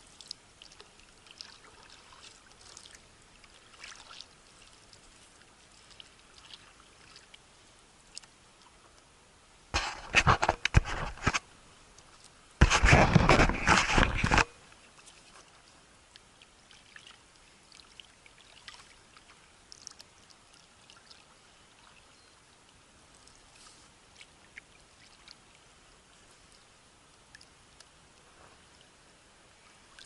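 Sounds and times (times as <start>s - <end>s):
water splashes and drips: 0.0s - 30.0s.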